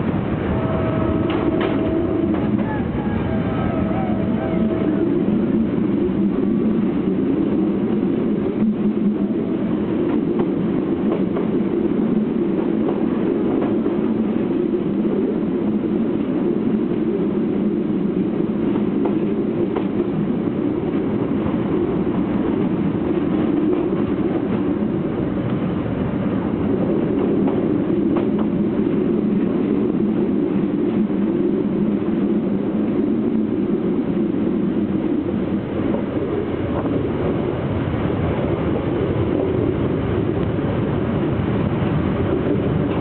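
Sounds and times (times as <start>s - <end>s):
train coaches rumbling on track: 0.0s - 43.0s.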